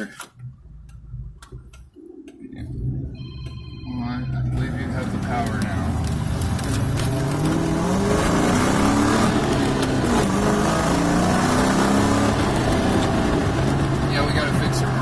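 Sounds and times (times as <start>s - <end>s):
car engine accelerating: 2.4s - 15.0s.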